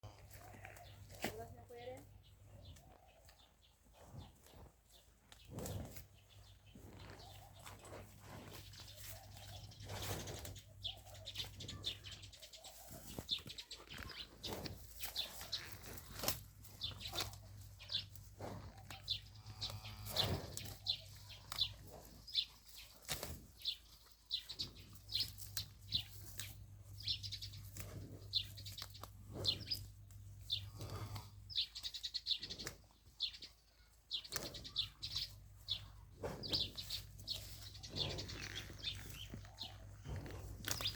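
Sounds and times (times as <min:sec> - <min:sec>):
animal tearing and chewing grass: 0:02.7 - 0:31.3, 0:34.2 - 0:40.9.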